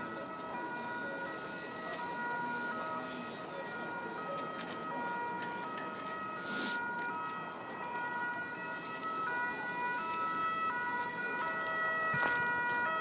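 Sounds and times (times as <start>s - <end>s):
two-tone siren: 0.0s - 13.0s.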